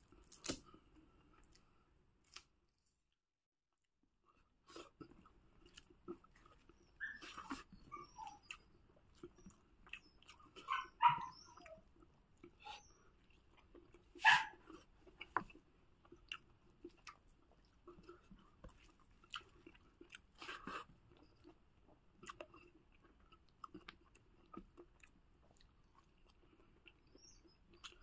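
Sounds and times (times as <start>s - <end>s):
man chewing and smacking: 4.3s - 11.0s, 11.6s - 28.0s.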